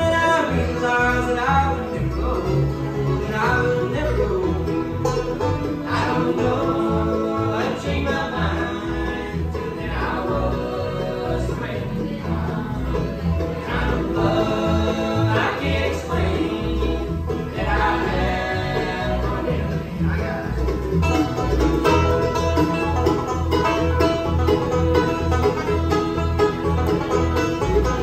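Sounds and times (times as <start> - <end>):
banjo: 0.0 - 28.0
guitar: 0.0 - 28.0.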